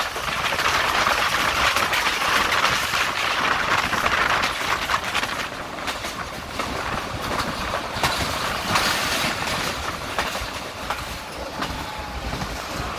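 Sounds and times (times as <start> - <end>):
train wheels rumbling on rails: 0.0 - 12.9
wheels clicking over rail joints: 0.0 - 12.9.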